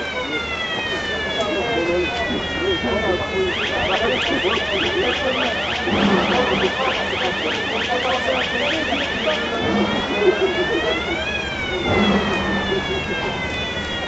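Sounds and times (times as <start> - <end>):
electronic siren yelping and wailing: 0.0 - 14.0.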